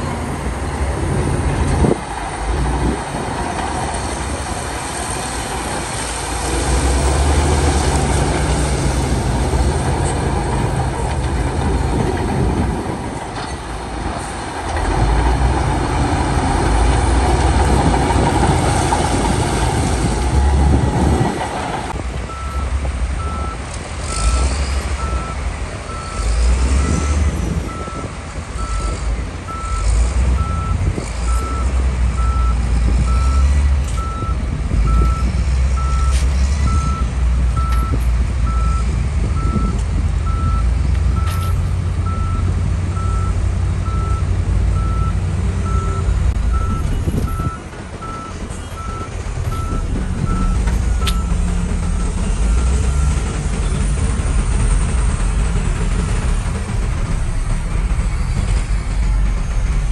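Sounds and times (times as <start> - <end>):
diesel engine rumble: 0.0 - 59.9.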